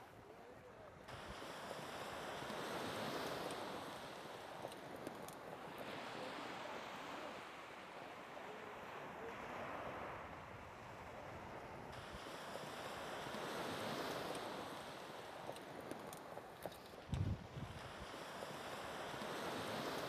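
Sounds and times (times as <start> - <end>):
surf washing onto beach: 1.1 - 20.0.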